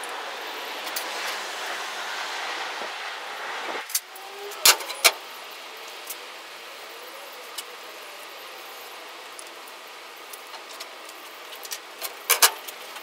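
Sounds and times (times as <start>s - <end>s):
outdoor background rush: 0.0s - 13.0s.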